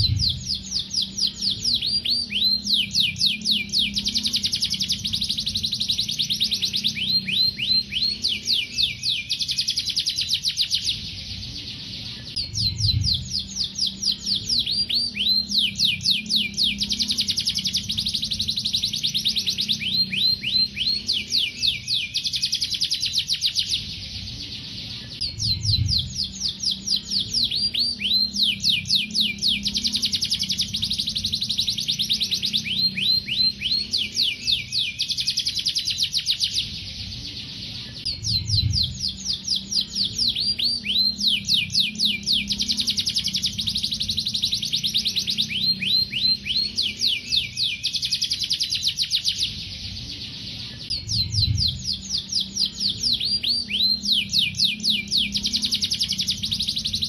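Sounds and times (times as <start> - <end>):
canary singing trills: 0.0 - 57.0
low hum: 0.0 - 57.0.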